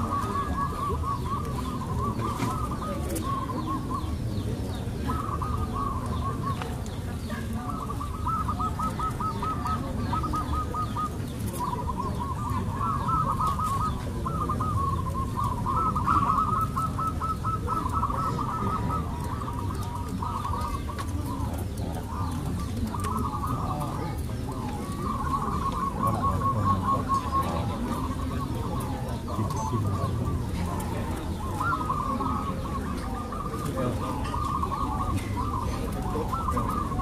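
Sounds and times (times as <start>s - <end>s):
doves cooing: 0.0s - 37.0s
low background noise: 0.0s - 37.0s.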